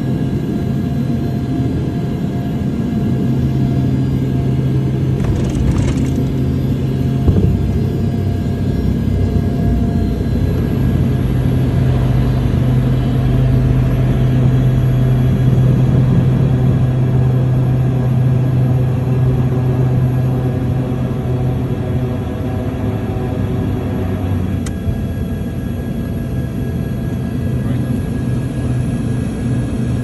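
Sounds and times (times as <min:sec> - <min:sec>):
turboprop engines droning: 0:00.0 - 0:30.0.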